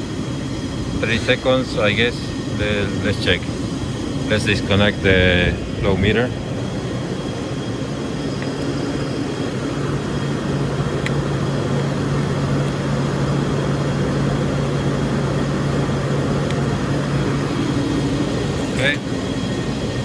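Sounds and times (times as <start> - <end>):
low hum: 0.0 - 20.0
machine tool drone: 0.0 - 20.0.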